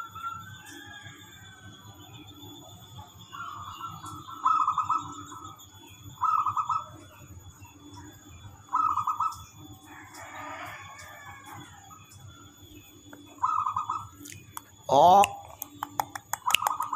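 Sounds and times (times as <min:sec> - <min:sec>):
dove rolling coos: 0:00.0 - 0:14.2.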